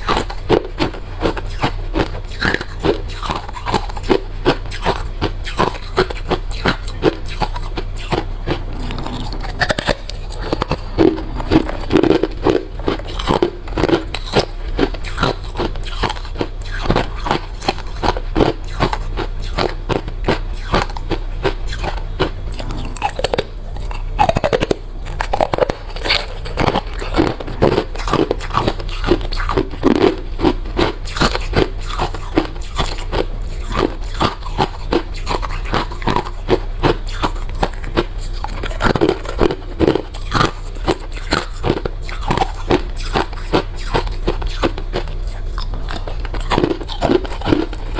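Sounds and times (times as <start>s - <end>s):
chewing crushed ice: 0.0s - 47.9s.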